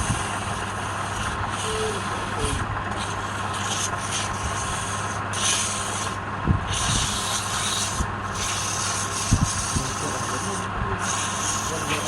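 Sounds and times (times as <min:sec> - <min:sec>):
tool rubbing spinning wood: 0:00.0 - 0:12.0
wood lathe humming: 0:00.0 - 0:12.0.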